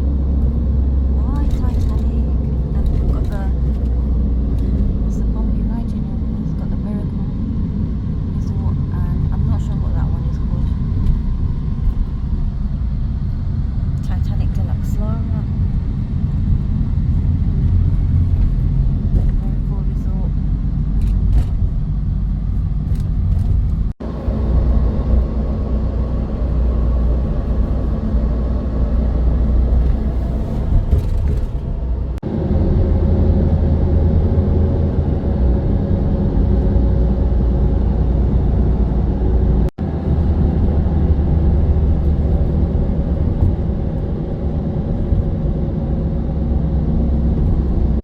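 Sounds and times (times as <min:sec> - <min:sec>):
vehicle engine and road rumble: 0:00.0 - 0:48.0.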